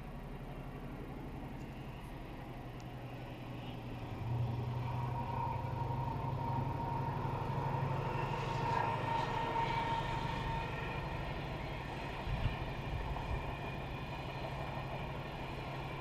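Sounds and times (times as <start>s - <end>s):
faint whine: 0.0s - 16.0s
rail noise: 0.0s - 16.0s
train engine drone: 0.0s - 16.0s.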